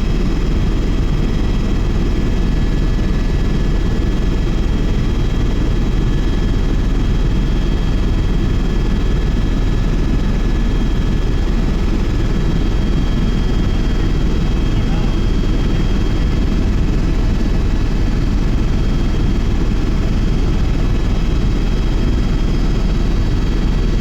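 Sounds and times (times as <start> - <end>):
helicopter cabin drone: 0.0 - 24.0.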